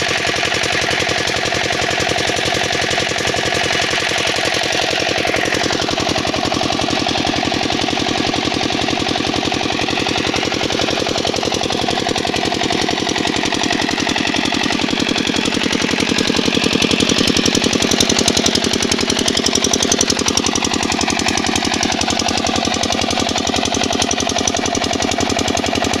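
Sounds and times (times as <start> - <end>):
diesel engine knocking: 0.0 - 26.0.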